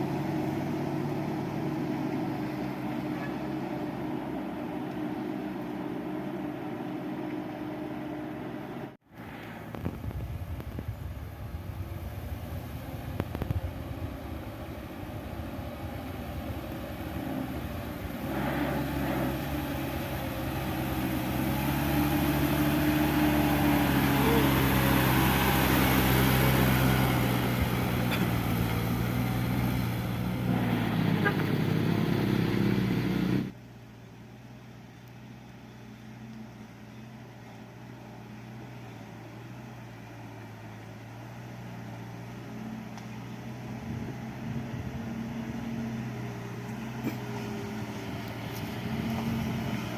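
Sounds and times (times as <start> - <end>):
truck engine labouring: 0.0 - 49.9.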